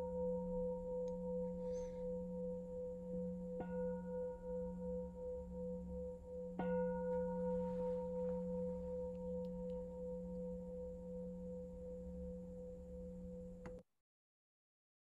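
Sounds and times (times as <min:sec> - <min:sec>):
singing bowl ringing: 0:00.0 - 0:13.7.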